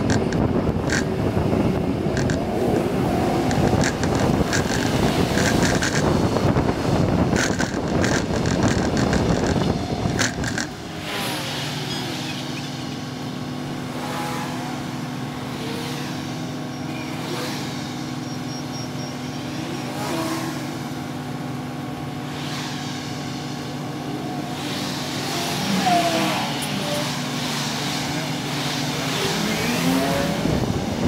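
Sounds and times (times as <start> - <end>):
bus driving with road noise: 0.0 - 31.0.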